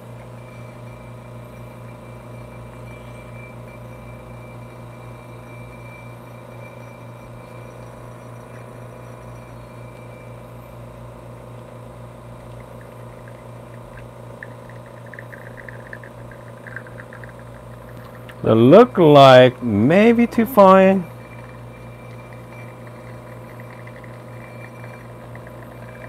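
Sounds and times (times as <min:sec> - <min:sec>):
espresso dripping ticks: 0:00.0 - 0:26.0
espresso machine pump humming: 0:00.0 - 0:26.0.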